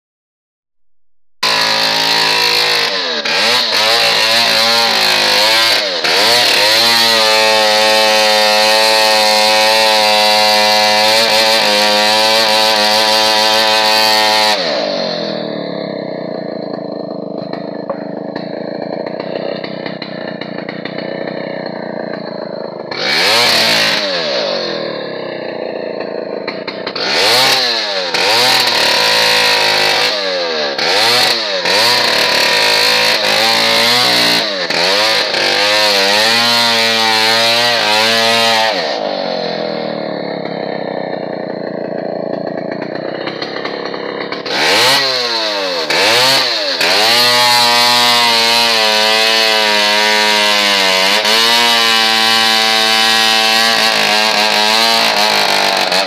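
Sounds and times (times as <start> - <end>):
chainsaw engine revving: 1.4 - 56.0.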